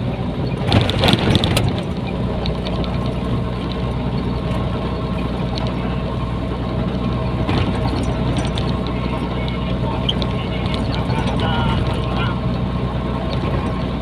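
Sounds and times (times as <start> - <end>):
road noise: 0.0 - 14.0
truck diesel engine running: 0.0 - 14.0.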